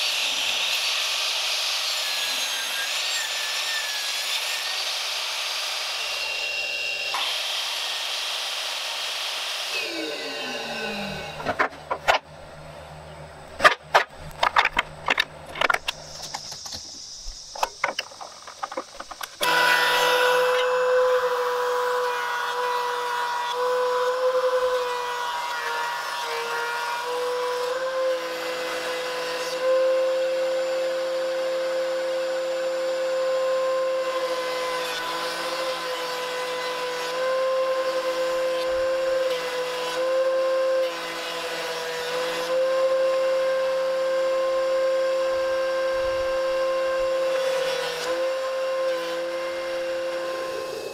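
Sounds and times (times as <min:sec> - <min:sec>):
shop vacuum running: 0:00.0 - 0:50.9
thickness planer whine: 0:00.0 - 0:50.9.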